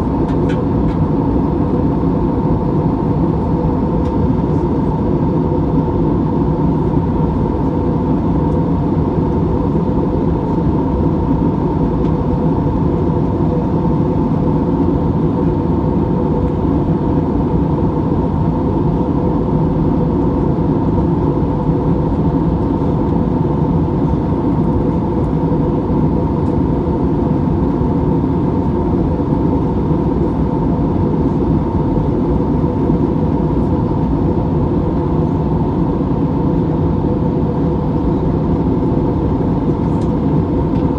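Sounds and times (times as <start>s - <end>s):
jet airliner cabin drone: 0.0s - 40.9s
steady hum: 0.0s - 40.9s.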